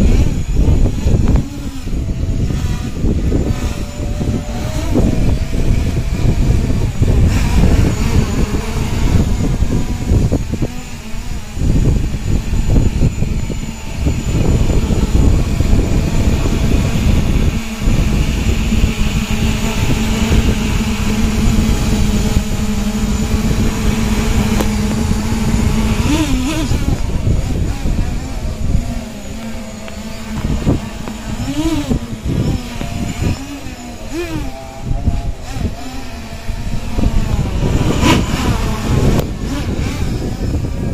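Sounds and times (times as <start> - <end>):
air buffeting microphone: 0.0 - 40.9
quadcopter motors droning: 0.0 - 40.9.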